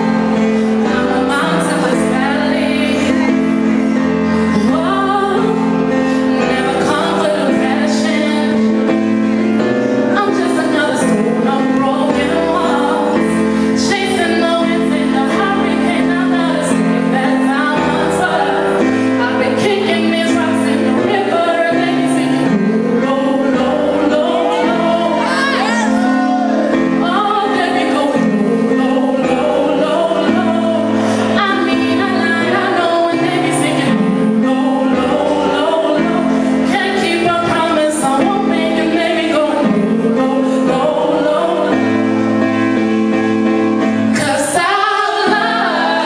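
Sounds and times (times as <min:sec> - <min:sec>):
woman singing into microphone: 0:00.0 - 0:42.9, 0:44.0 - 0:46.0
electric keyboard chords: 0:00.0 - 0:46.0.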